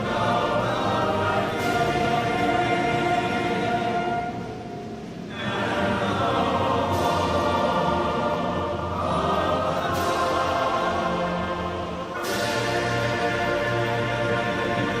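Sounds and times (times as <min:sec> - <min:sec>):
choir singing anthem: 0:00.0 - 0:15.0.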